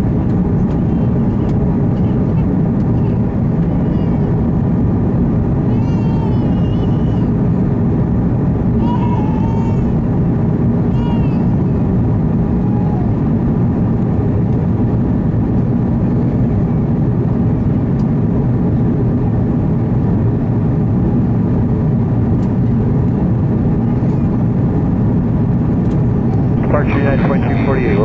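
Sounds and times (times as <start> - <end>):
airplane cabin rumble: 0.0 - 28.0.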